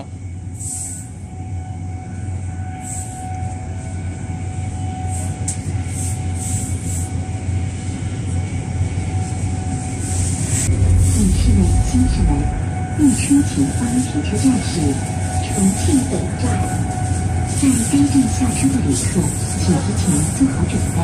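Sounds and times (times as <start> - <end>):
faint steady whine: 0.0 - 21.0
train rumbling inside carriage: 0.0 - 21.0.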